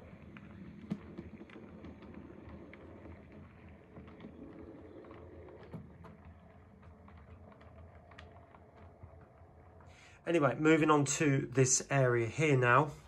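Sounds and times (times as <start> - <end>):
small track clicks: 0.0 - 11.8.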